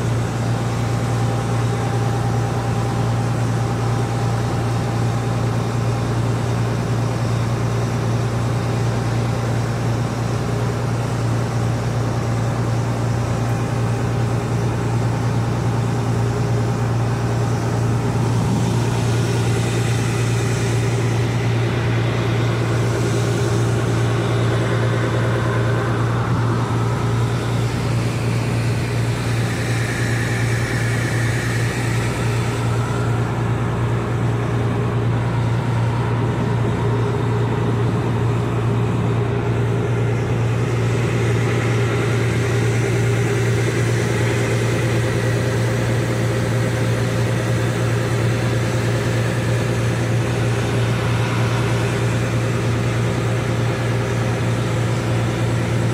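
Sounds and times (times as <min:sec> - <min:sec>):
boat engine drone: 0:00.0 - 0:55.9.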